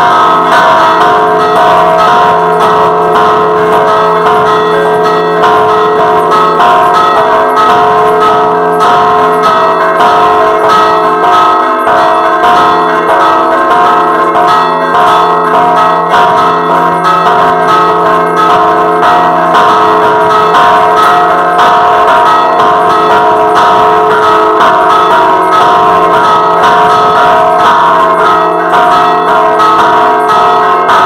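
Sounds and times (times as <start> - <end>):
large church bell ringing: 0.0 - 31.0.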